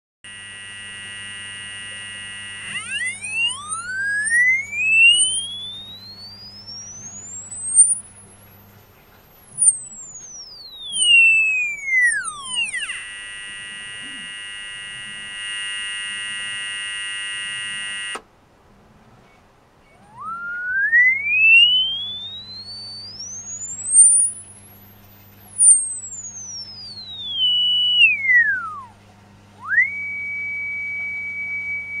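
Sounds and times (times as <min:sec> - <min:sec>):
piezo buzzer swept tones: 0:00.2 - 0:18.2, 0:19.9 - 0:28.9.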